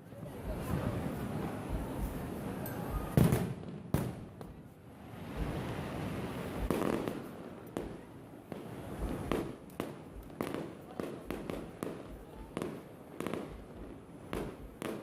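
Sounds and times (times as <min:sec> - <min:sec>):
fireworks crackling and rumbling: 0:00.0 - 0:15.0.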